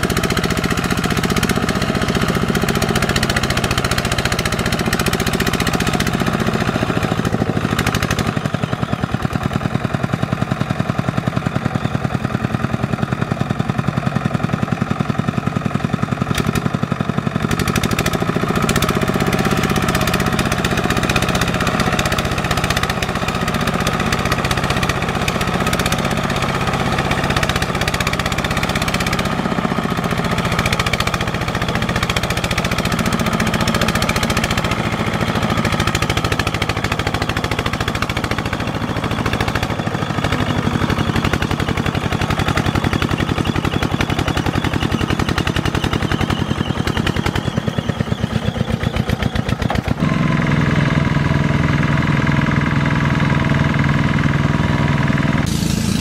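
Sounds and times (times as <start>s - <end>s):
diesel engine chugging: 0.0s - 56.0s
wheels churning through mud: 0.0s - 56.0s.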